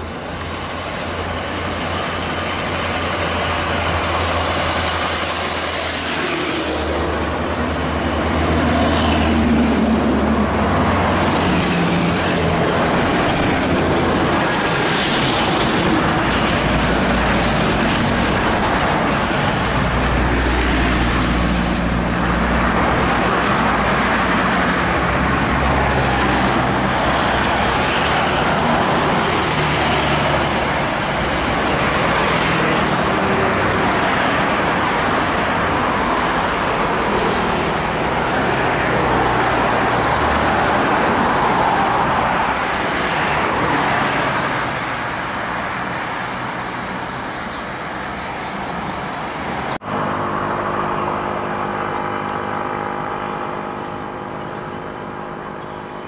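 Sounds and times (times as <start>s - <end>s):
diesel engines passing: 0.0s - 56.0s.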